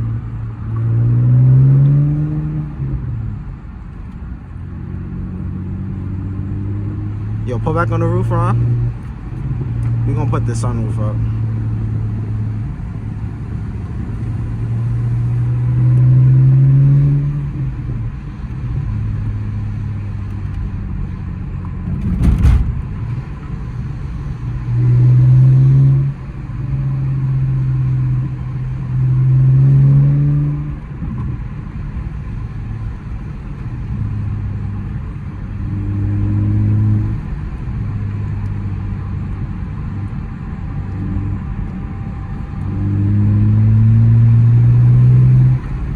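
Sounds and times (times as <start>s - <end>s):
car engine droning under acceleration: 0.0s - 45.9s.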